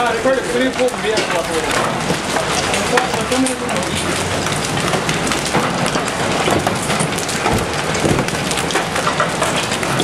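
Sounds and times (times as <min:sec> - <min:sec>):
hail pounding a vehicle: 0:00.0 - 0:10.0.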